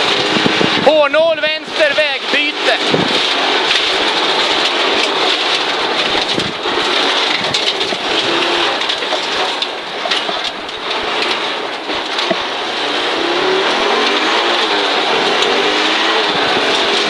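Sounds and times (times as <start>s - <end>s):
gravel pelting car underbody: 0.0s - 17.0s
turbocharged car engine: 0.0s - 17.0s.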